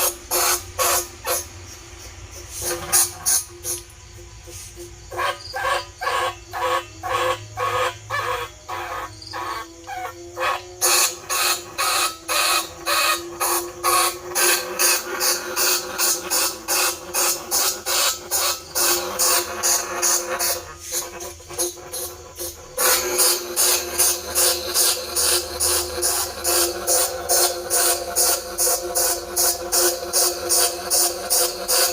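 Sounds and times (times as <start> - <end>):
rat squeaks: 0.0 - 3.8, 5.1 - 31.9.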